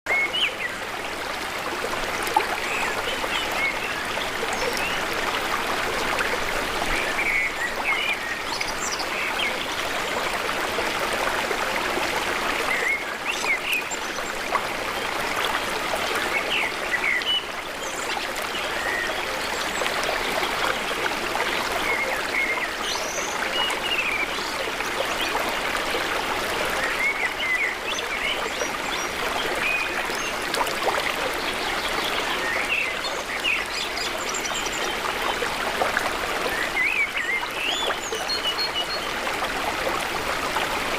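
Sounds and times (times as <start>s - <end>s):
stream water rushing: 0.1s - 40.9s.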